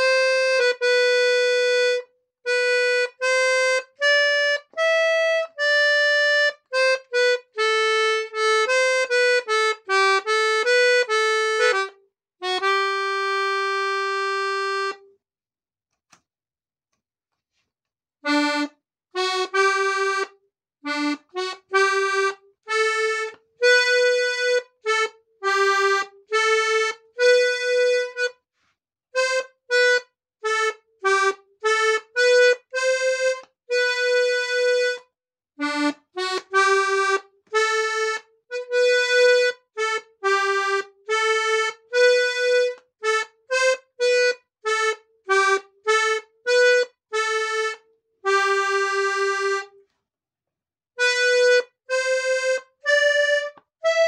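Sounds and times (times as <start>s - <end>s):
accordion melody: 0.0s - 15.2s, 18.2s - 50.0s, 51.0s - 54.0s.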